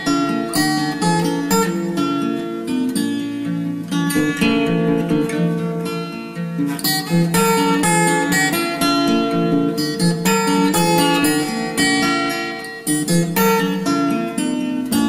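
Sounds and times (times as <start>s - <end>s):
guitar chords: 0.0s - 15.0s.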